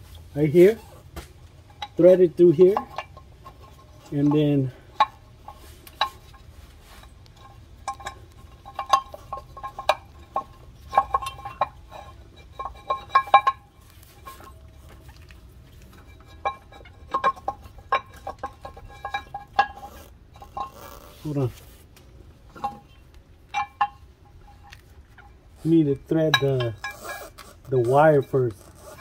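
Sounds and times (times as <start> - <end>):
metal parts clinking and rattling: 1.6 - 21.6, 22.5 - 29.0.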